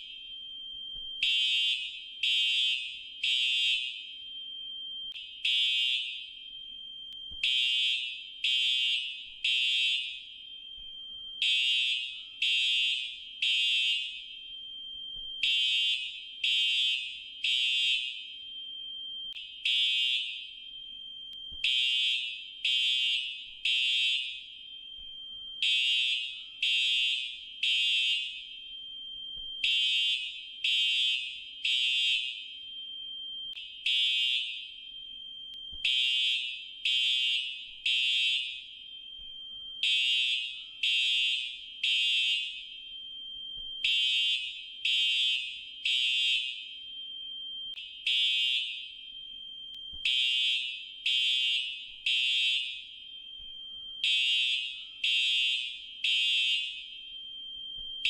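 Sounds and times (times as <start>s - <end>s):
fire alarm beeps: 0.0s - 58.0s.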